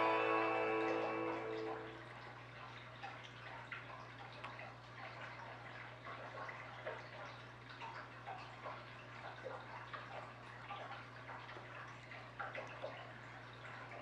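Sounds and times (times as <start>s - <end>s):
low steady hum: 0.0s - 14.0s
water drips plinking: 0.0s - 14.0s
water trickling into tank: 0.0s - 14.0s.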